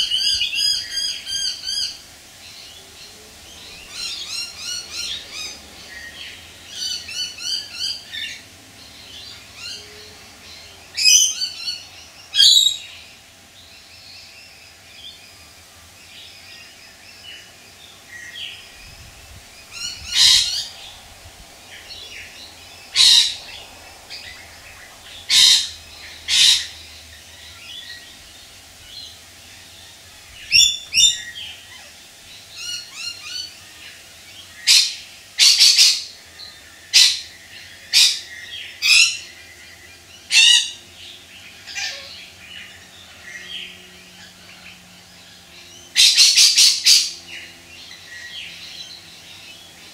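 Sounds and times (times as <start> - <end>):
birds calling: 0.0 - 49.9.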